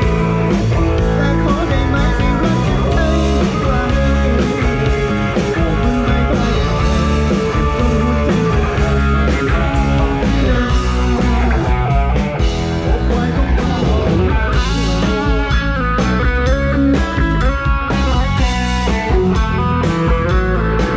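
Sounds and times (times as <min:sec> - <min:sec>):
electric guitar: 0:00.0 - 0:20.9
heavy bass: 0:00.0 - 0:20.9
lead guitar bending notes: 0:00.0 - 0:20.9
rock band playing: 0:00.0 - 0:20.9.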